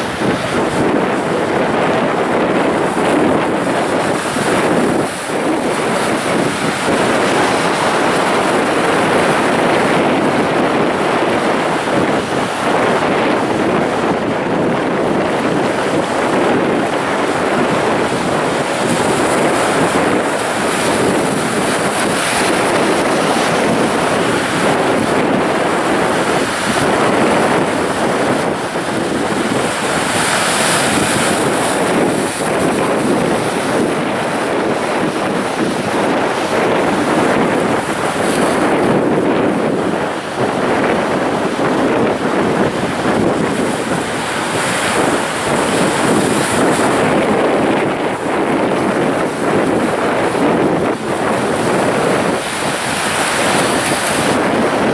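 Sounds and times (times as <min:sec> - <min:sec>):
surf breaking over rocks: 0:00.0 - 0:54.9.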